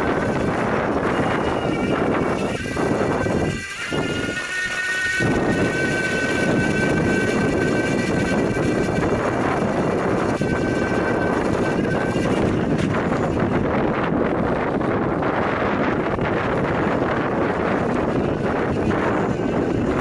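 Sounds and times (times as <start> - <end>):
electric motor whining: 0.0 - 20.0
wind on microphone: 0.0 - 20.0.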